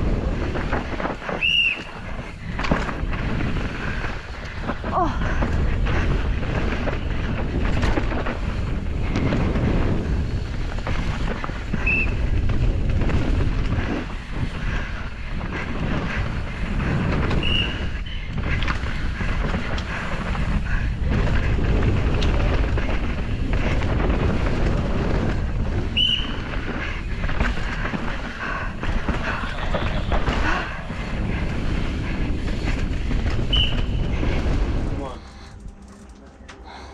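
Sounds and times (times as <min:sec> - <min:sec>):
wind buffeting microphone: 0:00.0 - 0:35.3
low rumble with clattering: 0:00.0 - 0:36.9.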